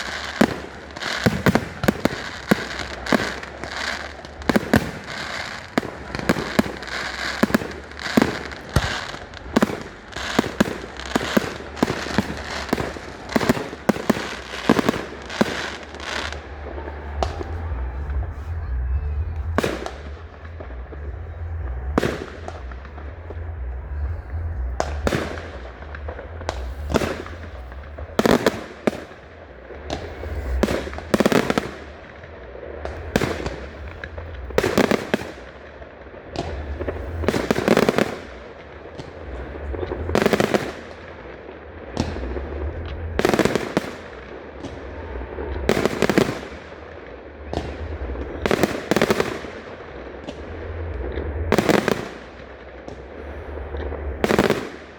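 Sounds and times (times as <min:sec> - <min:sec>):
fireworks bangs echoing: 0:00.0 - 0:54.9
low rumble: 0:02.4 - 0:54.9.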